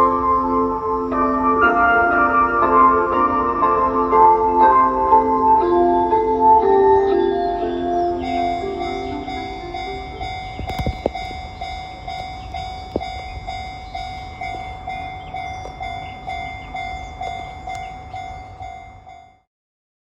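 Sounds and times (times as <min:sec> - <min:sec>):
level crossing alarm bell: 0:00.0 - 0:19.5.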